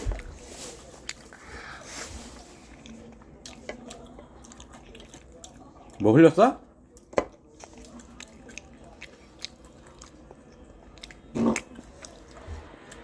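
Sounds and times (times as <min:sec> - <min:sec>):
crunchy chewing of fried food: 0:00.1 - 0:01.5, 0:02.3 - 0:06.0, 0:06.9 - 0:13.0.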